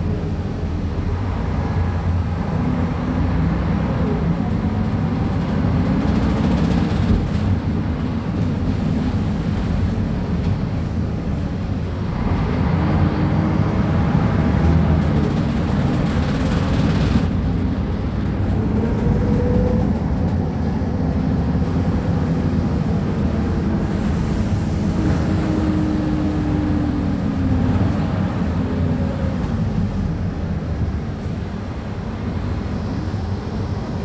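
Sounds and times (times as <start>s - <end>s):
bus diesel engine rumbling: 0.0s - 34.0s.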